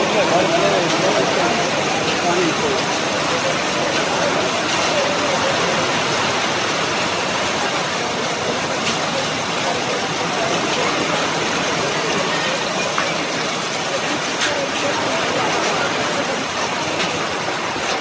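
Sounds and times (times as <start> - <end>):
heavy rain on wet road: 0.0 - 18.0.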